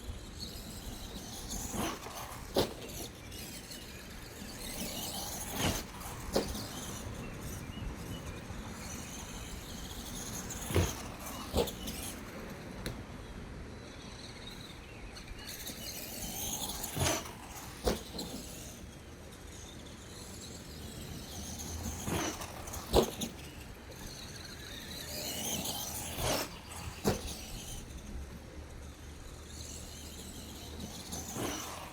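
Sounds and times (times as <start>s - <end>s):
outdoor noise: 0.0s - 31.9s
rc truck motor running: 0.0s - 31.9s.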